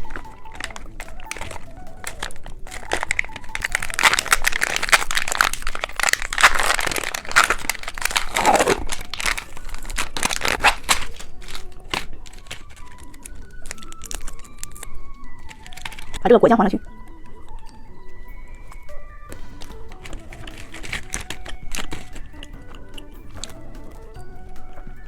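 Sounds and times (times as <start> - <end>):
plastic packaging crinkling: 0.0 - 25.0.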